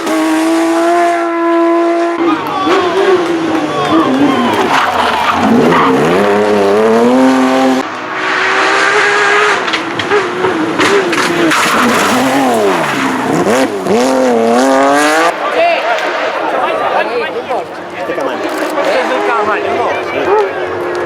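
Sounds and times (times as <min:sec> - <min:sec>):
rally car engine revving: 0:00.0 - 0:16.6, 0:17.8 - 0:21.0.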